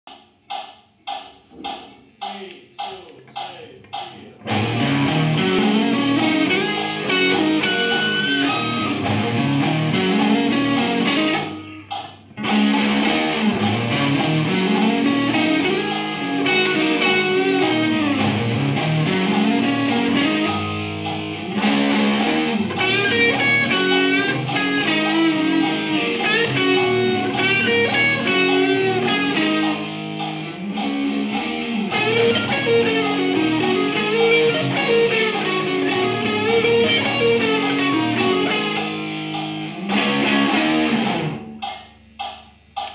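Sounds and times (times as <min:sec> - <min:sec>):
electric guitar solo: 0:04.4 - 0:41.6.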